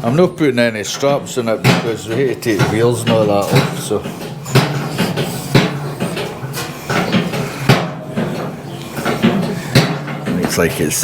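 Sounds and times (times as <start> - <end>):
metal knocks and clanks: 0.0 - 11.0.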